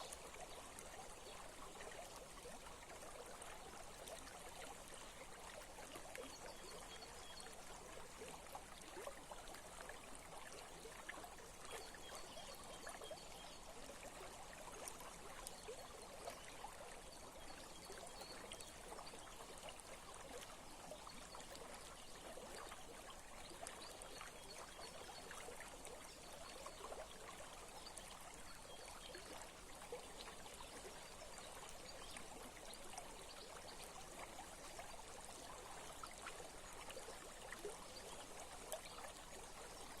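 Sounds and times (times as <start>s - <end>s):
small stream trickling over stones: 0.0s - 40.0s.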